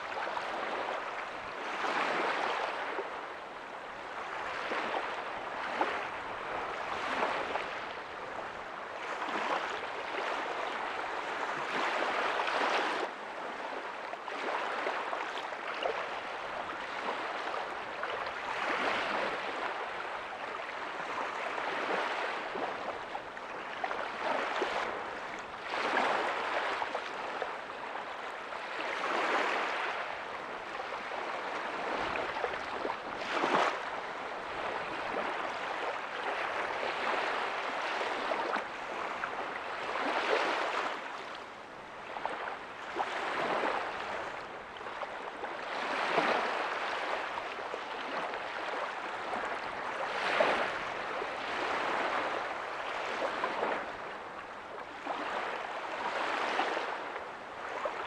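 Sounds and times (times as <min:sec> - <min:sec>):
small ocean waves breaking: 0:00.0 - 0:58.0.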